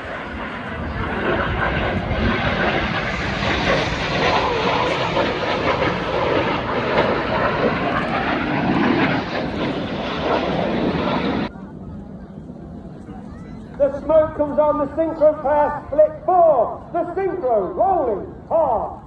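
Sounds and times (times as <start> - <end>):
faint jet whine: 0.0 - 19.0
jet roar: 0.0 - 19.0.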